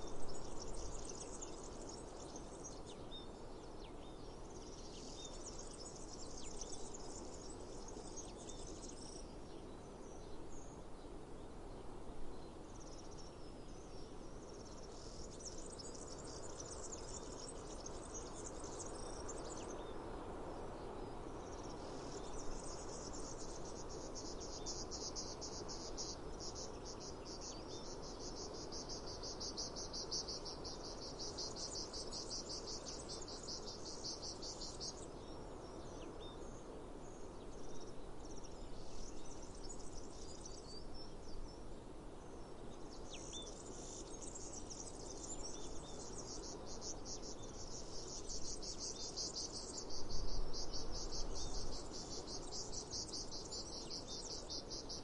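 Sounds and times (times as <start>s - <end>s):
soft outdoor background: 0.0s - 55.0s.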